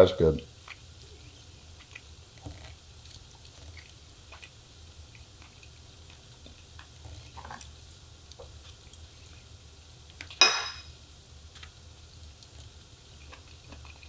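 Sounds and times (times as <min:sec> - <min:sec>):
person chewing: 0:00.5 - 0:09.4, 0:11.5 - 0:14.0.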